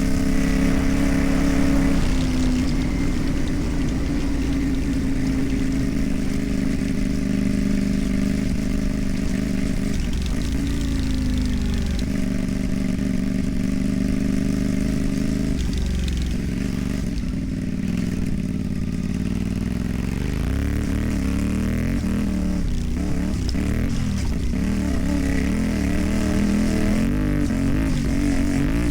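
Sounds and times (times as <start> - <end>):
motorcycle engine with loud exhaust: 0.0 - 28.9.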